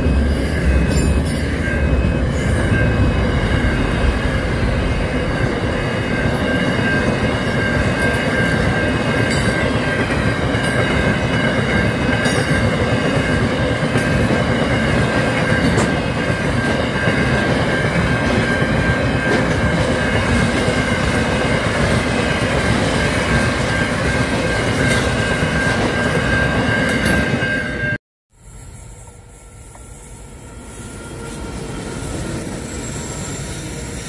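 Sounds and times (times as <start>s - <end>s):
train wheels rumbling on rails: 0.0s - 28.0s
steady high tone: 0.0s - 34.0s.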